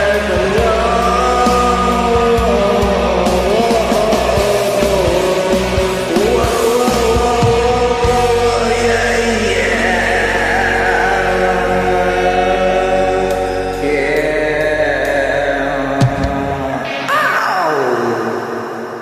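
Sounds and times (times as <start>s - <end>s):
karaoke music: 0.0s - 19.0s.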